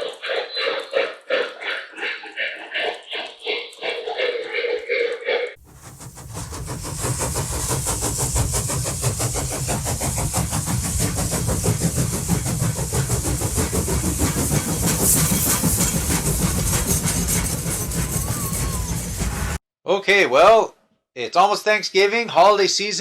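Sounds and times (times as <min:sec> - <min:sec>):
train rumbling on track: 0:00.0 - 0:19.6.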